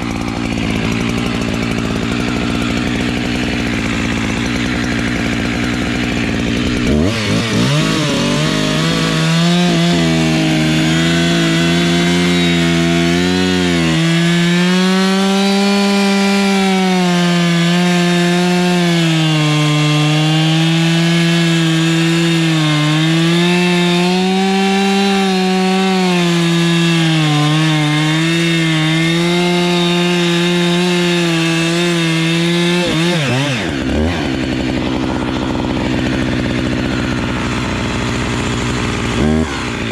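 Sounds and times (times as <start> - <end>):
chainsaw cutting into a trunk: 0.0 - 39.9.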